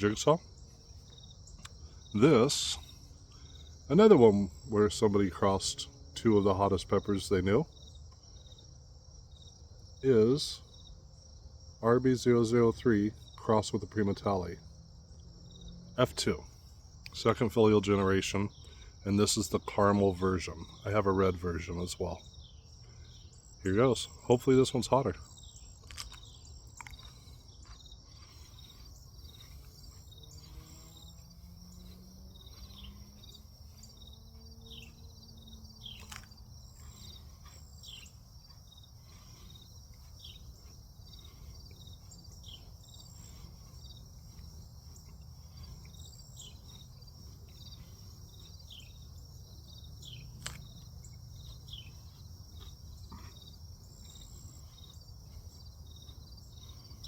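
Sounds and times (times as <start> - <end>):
crickets trilling: 0.0 - 57.0
faint low hum: 0.0 - 57.0
insects chirping: 0.0 - 57.0.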